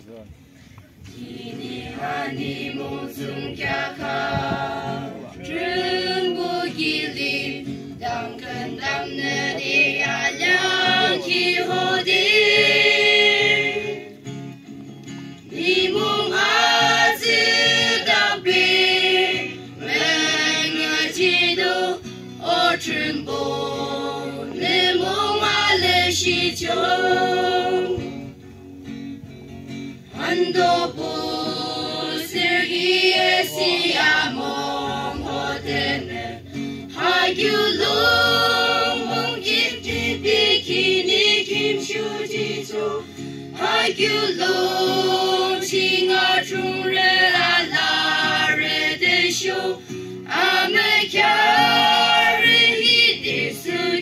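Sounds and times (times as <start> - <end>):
mixed choir singing: 1.1 - 14.4, 15.4 - 28.4, 30.1 - 54.0.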